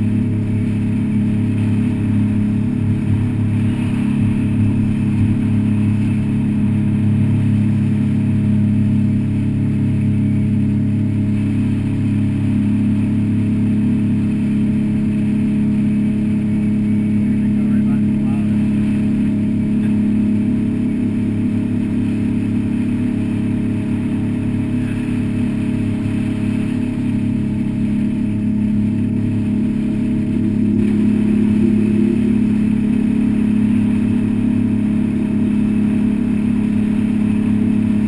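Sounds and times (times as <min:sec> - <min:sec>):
boat engine drone: 0:00.0 - 0:38.0.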